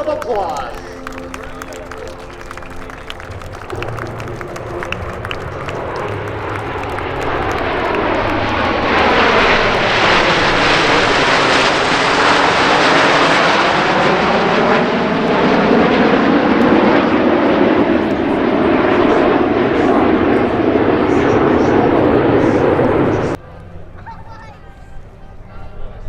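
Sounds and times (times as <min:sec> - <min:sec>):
jets flying past: 0:00.0 - 0:23.4.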